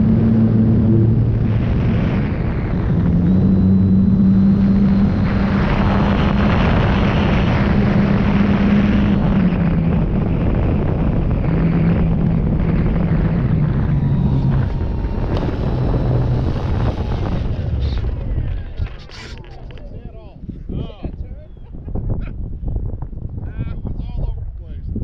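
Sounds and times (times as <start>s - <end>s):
electric motor and propeller humming: 0.0s - 20.6s
loud wind rush: 0.0s - 25.0s.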